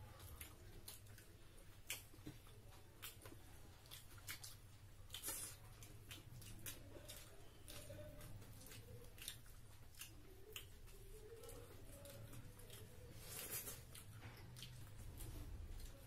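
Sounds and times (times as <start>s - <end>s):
people chewing and lip smacking: 0.0s - 16.0s.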